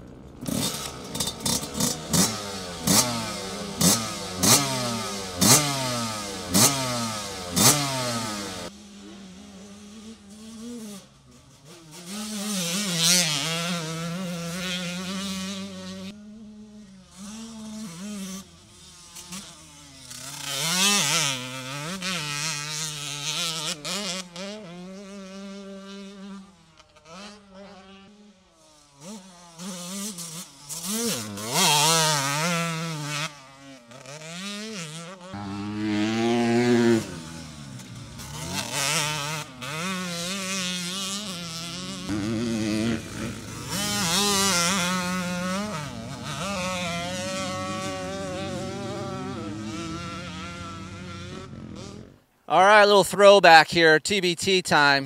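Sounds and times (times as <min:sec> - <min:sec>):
motorcycle engine revving: 0:00.0 - 0:52.3.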